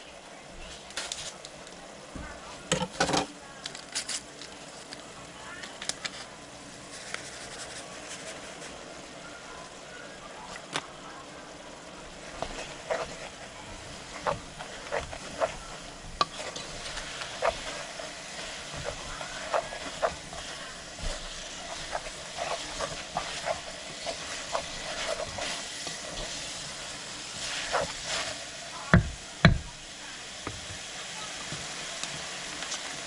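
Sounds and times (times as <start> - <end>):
sizzling: 3.9 - 33.0.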